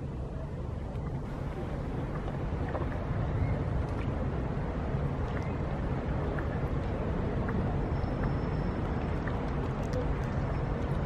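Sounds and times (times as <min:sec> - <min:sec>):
city background noise: 0:00.0 - 0:11.0
wind rumble on microphone: 0:00.0 - 0:11.0.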